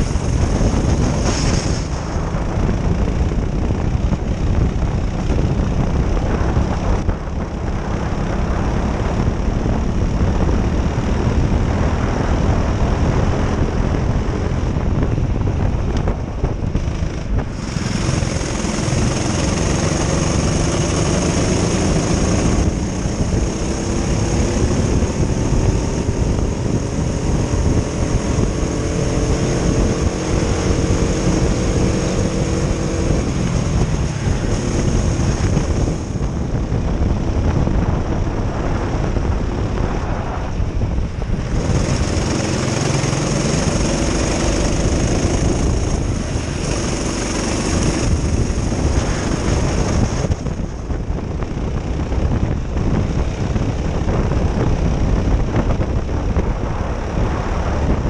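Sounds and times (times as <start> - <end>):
racing kart engines: 0.0 - 58.0.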